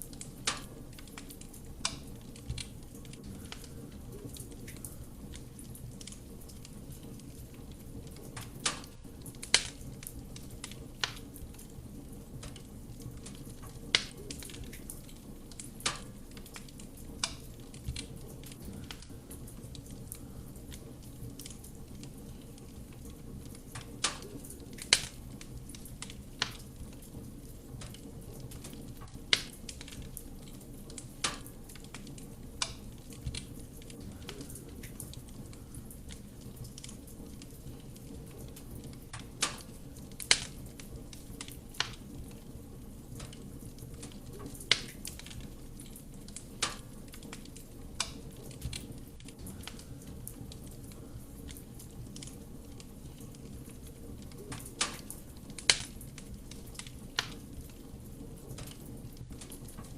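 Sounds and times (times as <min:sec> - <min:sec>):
burning wood crackling and popping: 0:00.0 - 0:59.9
wood fire burning: 0:00.0 - 0:59.9.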